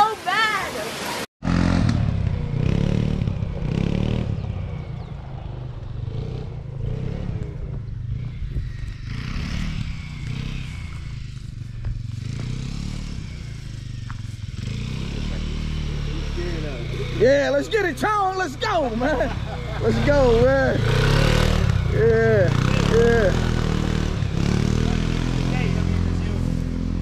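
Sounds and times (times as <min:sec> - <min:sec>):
small vehicle engine running: 0:01.4 - 0:27.0.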